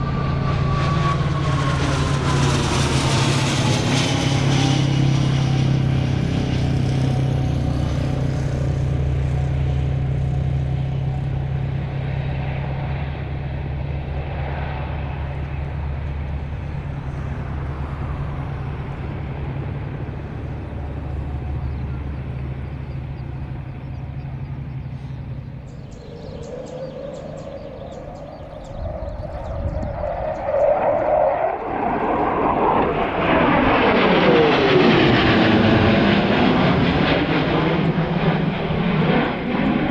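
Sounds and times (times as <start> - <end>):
aircraft engine drone: 0.0 - 39.9
aircraft passing loudly: 0.0 - 39.9.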